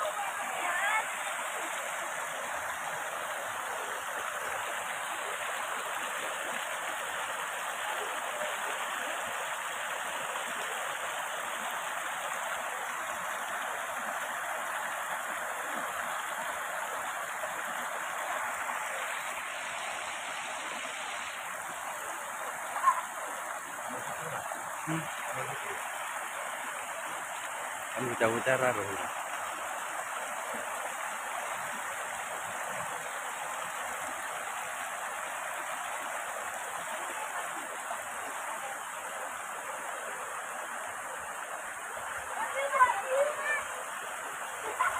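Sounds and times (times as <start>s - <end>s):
stream rushing over boulders: 0.0s - 44.9s.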